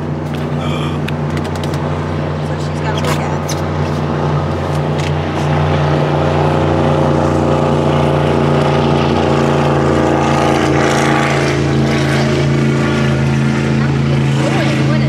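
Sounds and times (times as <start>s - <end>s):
speedboat engine drone: 0.0s - 15.0s.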